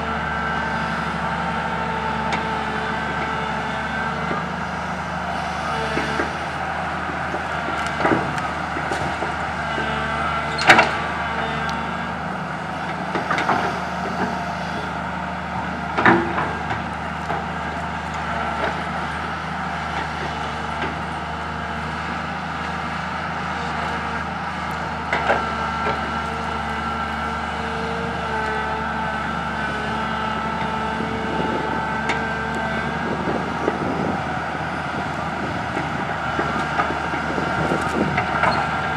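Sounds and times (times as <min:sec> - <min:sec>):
excavator diesel engine running: 0:00.0 - 0:38.9
excavator knocks and clunks: 0:05.3 - 0:11.7, 0:12.7 - 0:38.9.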